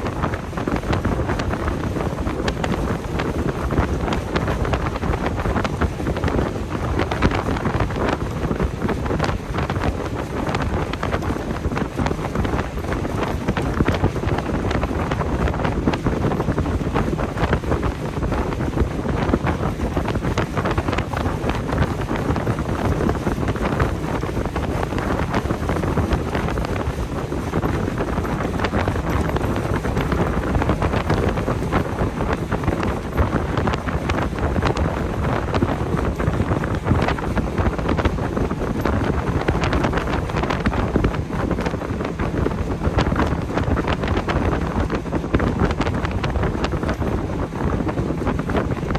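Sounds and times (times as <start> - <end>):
boat engine: 0.0 - 48.9
hull running on water: 0.0 - 48.9
wind buffeting microphone: 0.0 - 48.9.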